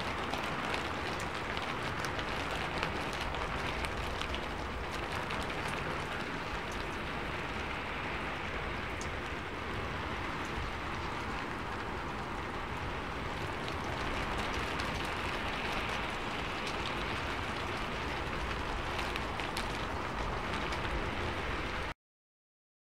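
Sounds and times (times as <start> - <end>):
rainfall: 0.0 - 22.0.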